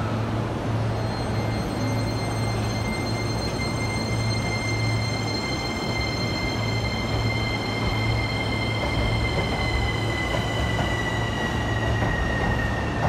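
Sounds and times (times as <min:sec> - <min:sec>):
electric train inverter whine: 0:00.0 - 0:13.0.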